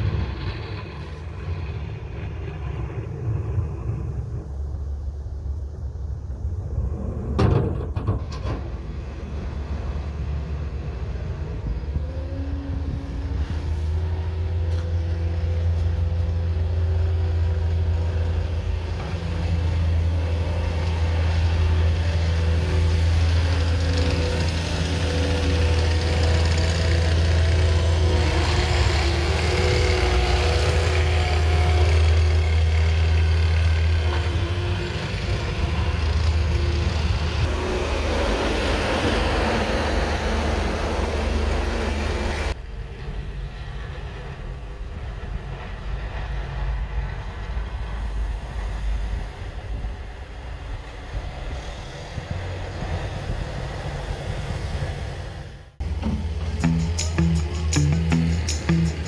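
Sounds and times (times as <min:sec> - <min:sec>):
diesel engines droning: 0:00.0 - 0:59.0.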